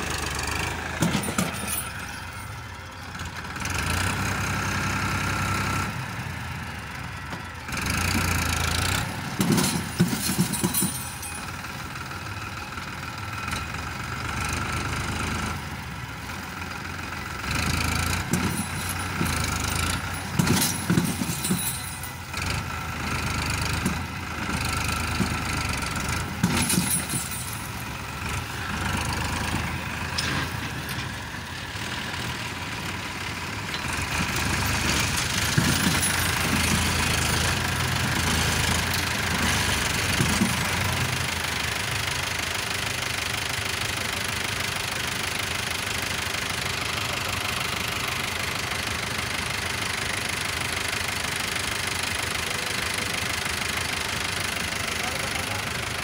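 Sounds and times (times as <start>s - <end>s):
tractor diesel engine revving: 0.0s - 56.0s.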